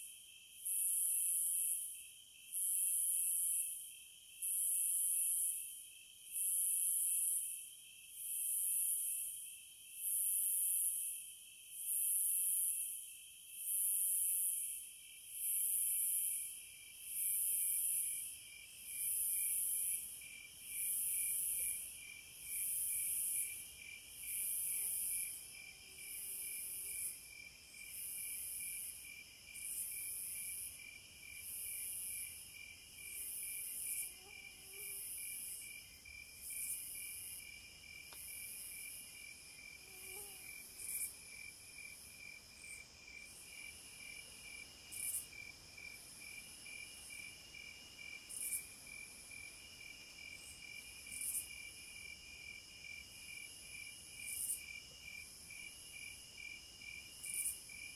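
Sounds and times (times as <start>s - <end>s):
low insect trill: 0.1s - 57.9s.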